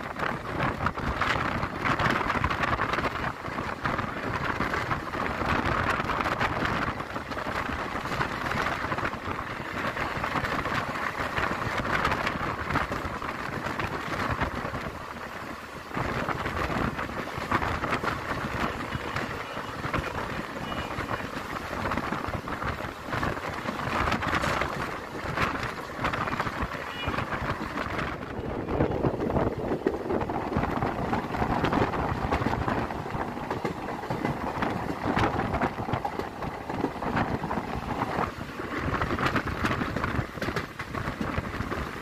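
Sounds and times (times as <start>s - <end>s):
train wheels on rails: 0.0s - 42.0s
wind rushing: 0.0s - 42.0s.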